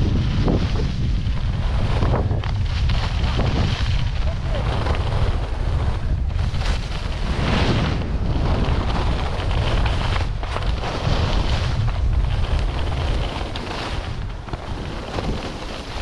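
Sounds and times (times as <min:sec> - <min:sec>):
skis scraping on snow: 0:00.0 - 0:16.0
wind buffeting microphone: 0:00.0 - 0:16.0.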